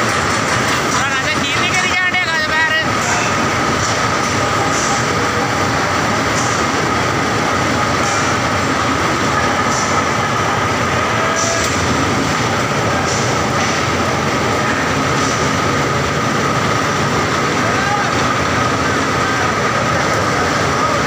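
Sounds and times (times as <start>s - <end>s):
machinery whine: 0.0s - 21.0s
rolling mill machinery clatter: 0.0s - 21.0s.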